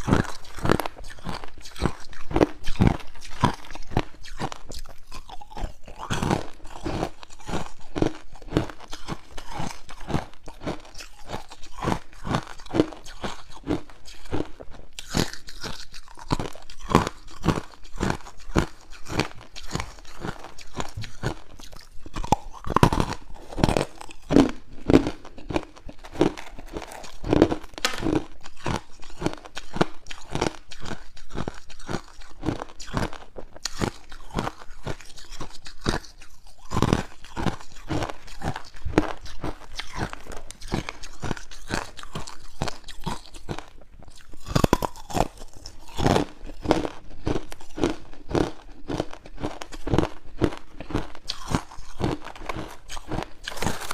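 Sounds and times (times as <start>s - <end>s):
crunching ice cubes: 0.0s - 53.9s.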